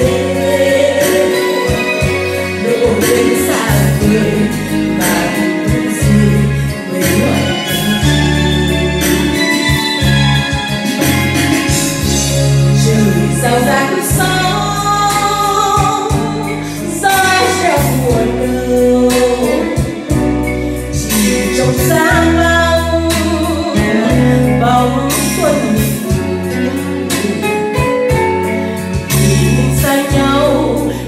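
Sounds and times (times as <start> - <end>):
woman singing into microphone: 0.0 - 10.6, 11.6 - 31.0
backing music with steady beat: 0.0 - 31.0.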